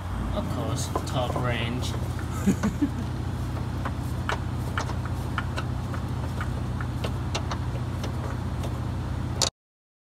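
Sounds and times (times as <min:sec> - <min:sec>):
low mechanical hum: 0:00.0 - 0:09.5.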